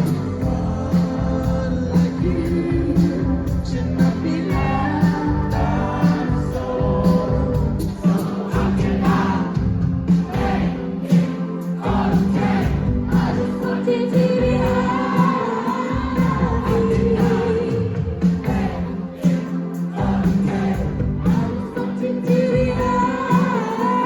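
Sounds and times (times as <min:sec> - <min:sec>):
person singing: 0:00.0 - 0:09.5, 0:10.2 - 0:24.0
live rock band playing: 0:00.0 - 0:24.0.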